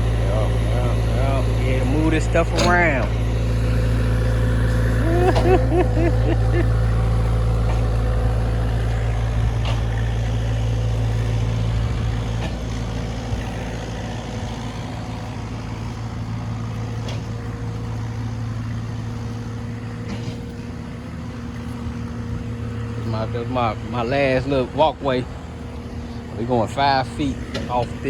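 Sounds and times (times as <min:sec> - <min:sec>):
heavy machinery engine humming: 0:00.0 - 0:28.0.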